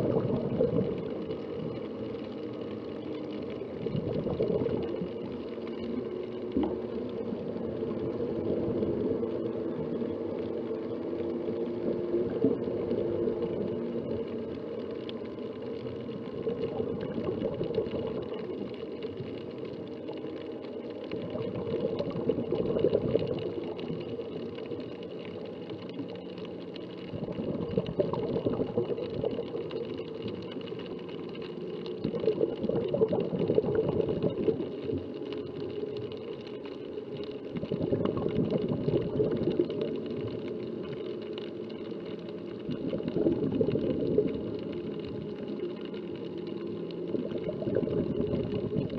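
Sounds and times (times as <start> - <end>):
faint steady hum: 0.0 - 48.9
underwater exhaled bubbles burbling: 0.0 - 48.9.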